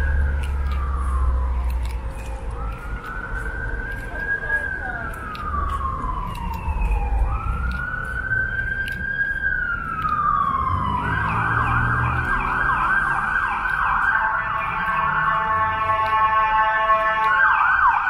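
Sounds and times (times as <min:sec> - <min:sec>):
emergency vehicle siren: 0:00.0 - 0:18.0
traffic rumble: 0:00.0 - 0:18.0.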